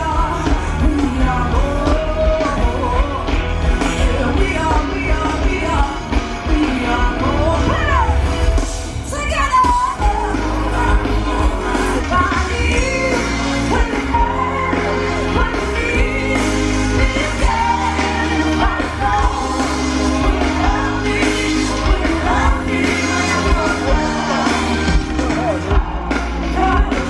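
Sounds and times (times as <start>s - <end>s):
live pop band with heavy bass: 0.0s - 27.0s
person singing: 0.0s - 27.0s.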